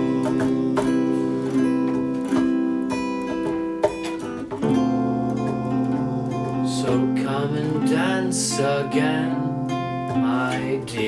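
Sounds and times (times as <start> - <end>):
acoustic guitar playing chords: 0.0 - 11.0.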